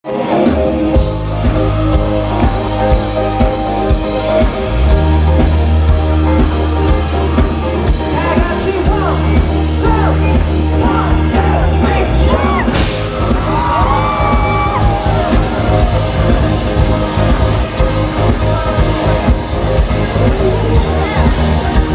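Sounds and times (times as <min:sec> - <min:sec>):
bass guitar: 0:00.0 - 0:21.9
live rock band playing: 0:00.0 - 0:21.9
drum kit beat: 0:00.1 - 0:21.9.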